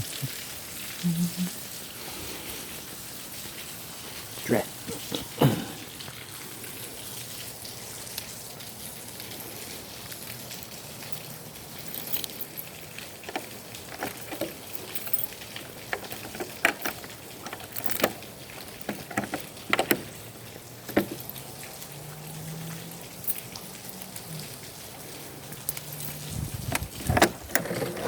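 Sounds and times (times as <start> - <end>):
large raindrops tapping: 0.0 - 28.0
steady rain hiss: 0.0 - 28.0.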